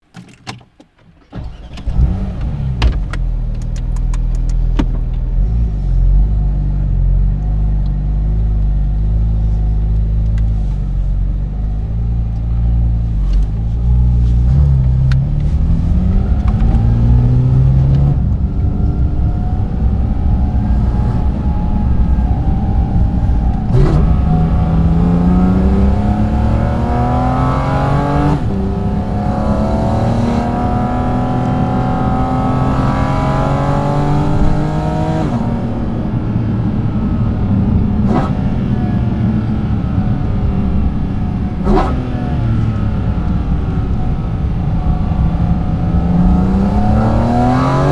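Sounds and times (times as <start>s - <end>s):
gear change: 0.2s - 47.9s
car engine starting and revving: 1.2s - 47.9s.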